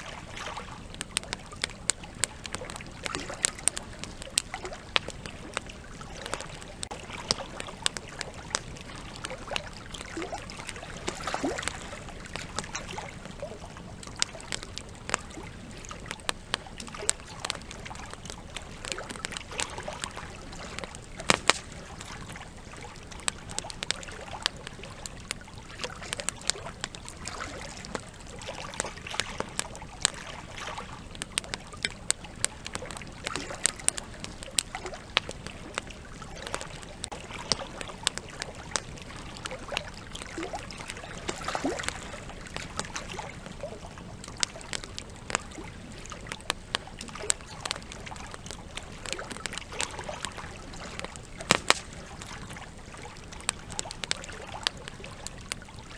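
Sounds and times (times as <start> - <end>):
campfire crackling and popping: 0.0 - 55.9
river trickling and rushing: 0.0 - 55.9.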